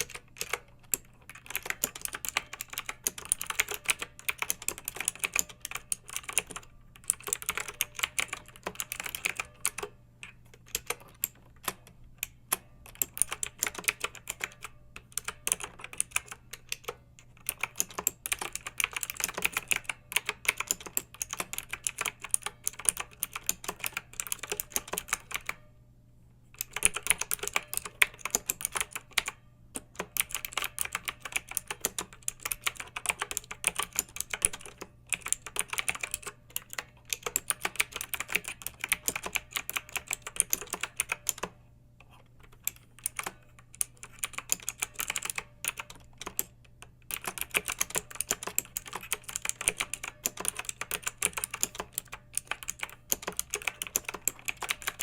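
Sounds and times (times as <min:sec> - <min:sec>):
fast typing on mechanical keyboard: 0:00.0 - 0:25.7, 0:26.6 - 0:55.0
faint steady hum: 0:00.0 - 0:55.0.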